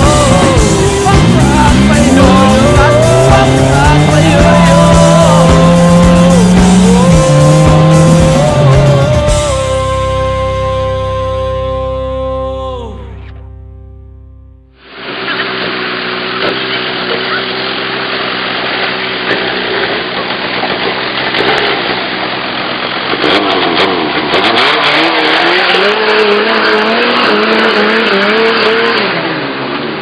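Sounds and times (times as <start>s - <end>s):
road noise: 0.0s - 30.0s
vehicle engine revving: 0.0s - 30.0s.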